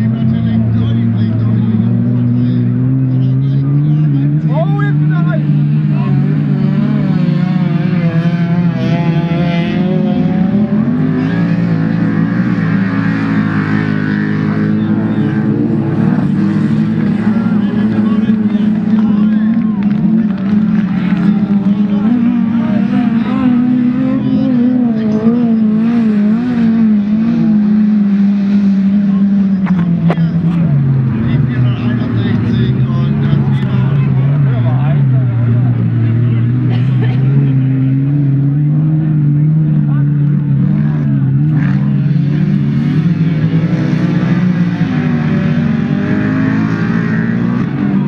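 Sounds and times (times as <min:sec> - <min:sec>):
racing car engines: 0:00.0 - 0:48.0.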